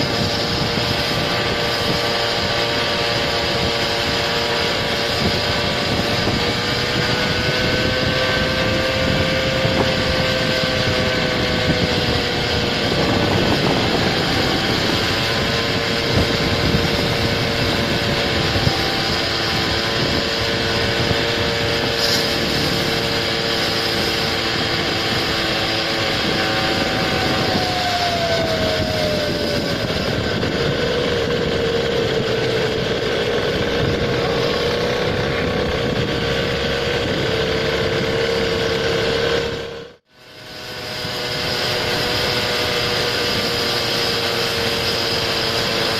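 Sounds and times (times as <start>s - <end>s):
small engine buzzing: 0.0s - 45.9s.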